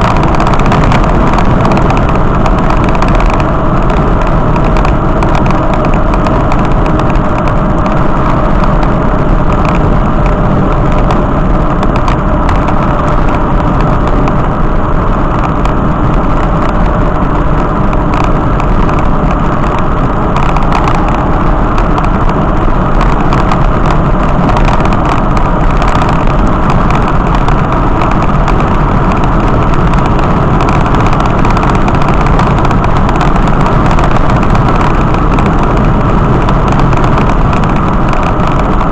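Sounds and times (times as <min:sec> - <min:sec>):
vehicle road and engine noise: 0:00.0 - 0:38.9.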